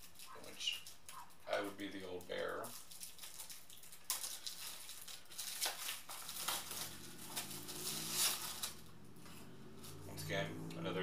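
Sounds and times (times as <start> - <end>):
packaging crinkling and rustling: 0.0 - 8.9.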